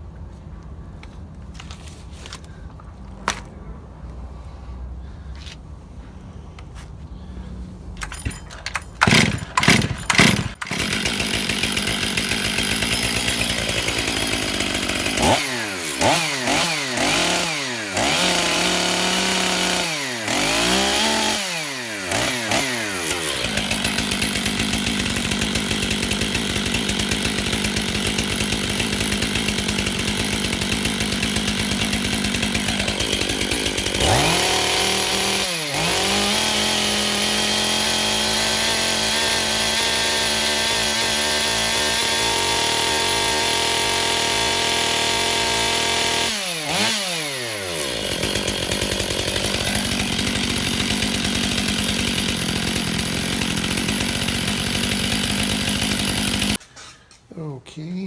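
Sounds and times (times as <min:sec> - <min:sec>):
chainsaw engine revving and idling: 0:08.0 - 0:56.6.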